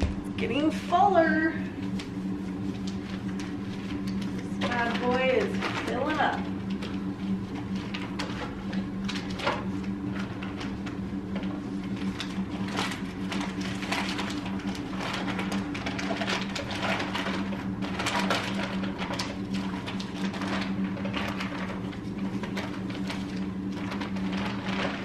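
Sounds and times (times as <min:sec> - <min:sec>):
steady low hum: 0:00.0 - 0:25.0
packaging rustling and crinkling: 0:02.7 - 0:25.0.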